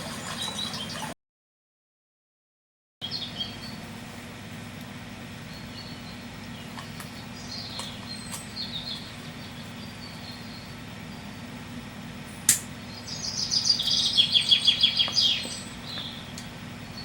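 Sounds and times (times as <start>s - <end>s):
small birds chirping: 0.0s - 1.1s, 3.0s - 4.0s, 4.8s - 12.0s, 12.6s - 17.0s
outdoor ambience: 0.0s - 1.2s, 3.0s - 17.0s.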